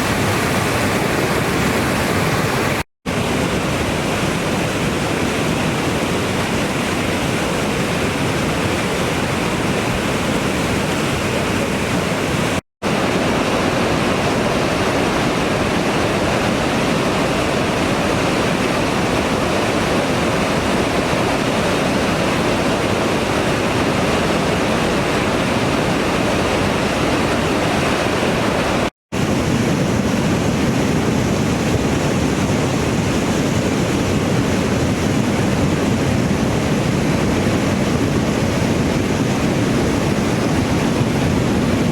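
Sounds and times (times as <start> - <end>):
river rushing in flood: 0.0 - 41.9.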